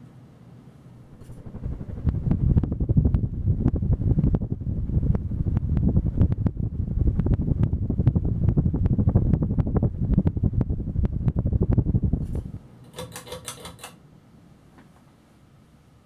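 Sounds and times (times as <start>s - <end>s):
fan air buffeting microphone: 0.0s - 16.0s.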